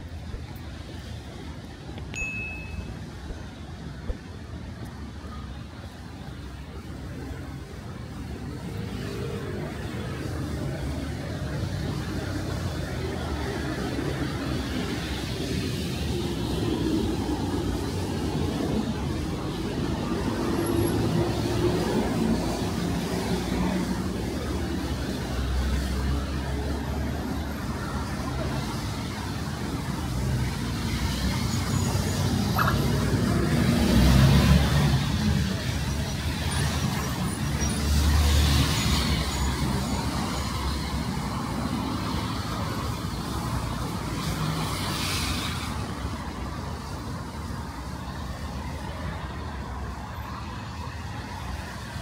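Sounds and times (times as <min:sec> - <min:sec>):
cars passing: 0:00.0 - 0:52.0
tyres hissing on wet road: 0:06.5 - 0:52.0.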